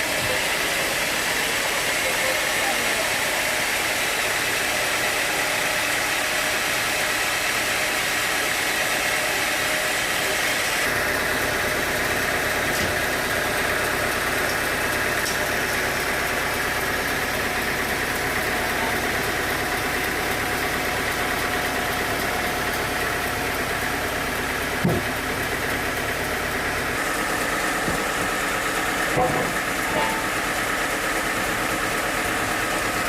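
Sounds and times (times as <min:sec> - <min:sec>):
deep machinery rumble: 0:00.0 - 0:33.0
sawmill machinery high hum: 0:00.0 - 0:33.0.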